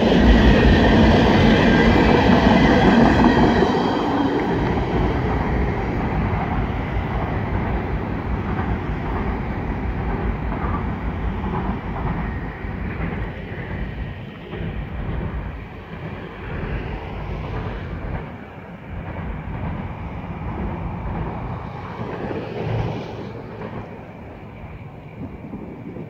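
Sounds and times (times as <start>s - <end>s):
freight train rumbling: 0.0s - 26.0s.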